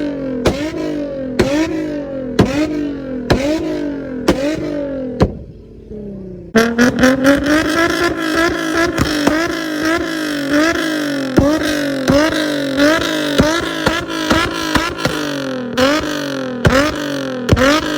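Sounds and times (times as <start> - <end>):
exhaust pops: 0.0 - 5.7, 6.6 - 17.9
car engine revving: 0.0 - 17.9.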